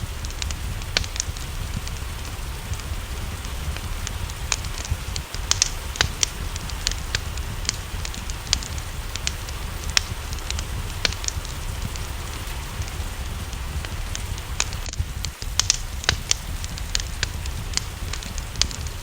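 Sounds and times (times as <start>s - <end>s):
low rumble: 0.0s - 19.0s
rain hiss: 0.0s - 19.0s
wood fire crackling and popping: 0.0s - 19.0s.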